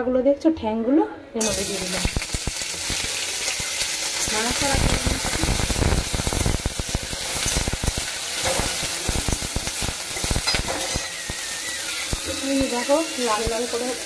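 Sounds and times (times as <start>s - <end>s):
crab legs sizzling in oil: 1.4s - 14.0s.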